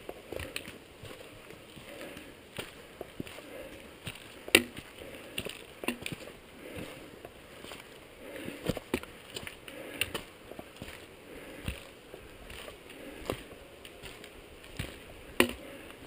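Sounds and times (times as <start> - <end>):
boots on stone: 0.0 - 16.0
soft rustling: 0.0 - 16.0.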